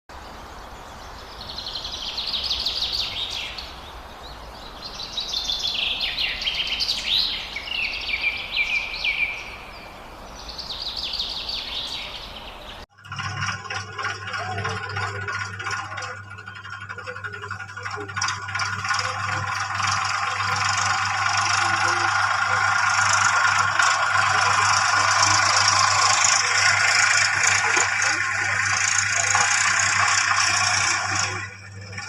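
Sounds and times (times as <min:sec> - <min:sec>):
low hum with held tones: 0:00.1 - 0:32.0
birds chirping and singing: 0:00.2 - 0:12.9, 0:13.7 - 0:32.0.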